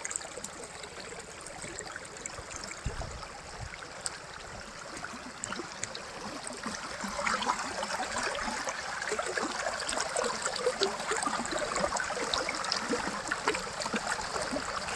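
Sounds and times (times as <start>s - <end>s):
stream burbling: 0.0s - 14.9s.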